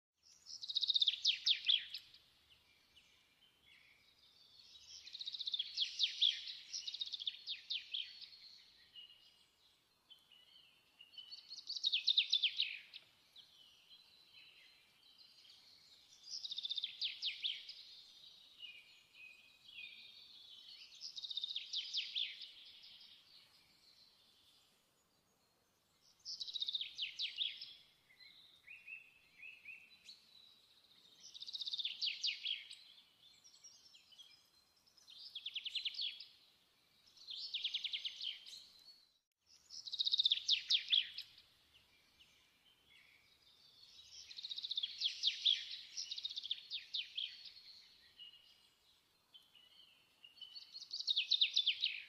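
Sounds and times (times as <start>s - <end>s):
soft bird twittering: 0.2s - 52.0s
songbird chirping bursts: 0.3s - 52.0s.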